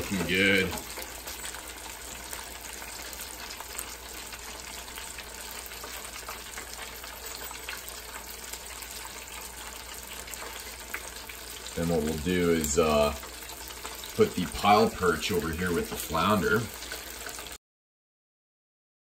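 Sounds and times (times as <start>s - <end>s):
fish deep-frying in hot oil: 0.0s - 17.6s.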